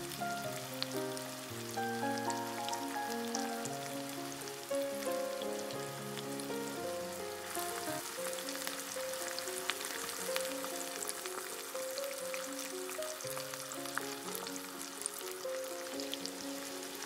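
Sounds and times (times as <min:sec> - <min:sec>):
background music with held notes: 0:00.0 - 0:17.0
food sizzling in hot oil: 0:00.0 - 0:17.0.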